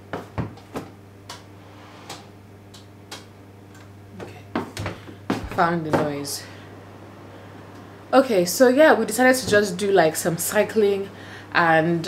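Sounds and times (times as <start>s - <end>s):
appliance electrical hum: 0.0s - 12.0s.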